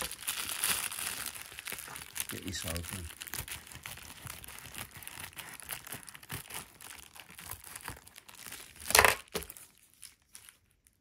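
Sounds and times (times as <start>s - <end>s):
plastic crinkling: 0.0s - 11.0s.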